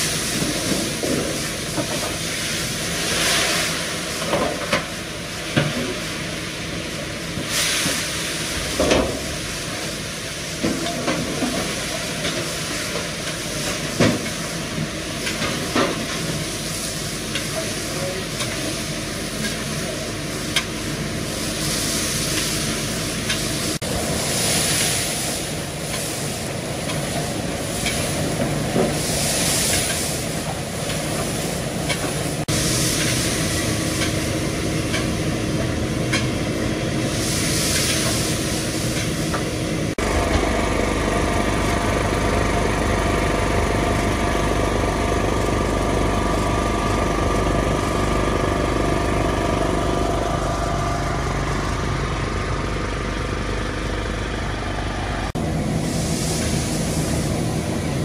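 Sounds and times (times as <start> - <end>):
meat frying with hiss: 0.0 - 35.6, 36.4 - 49.2.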